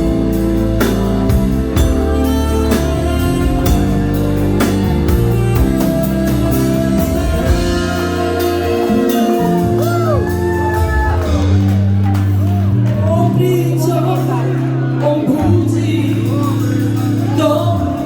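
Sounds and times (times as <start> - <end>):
drum kit: 0.0 - 18.0
guitar: 0.0 - 18.0.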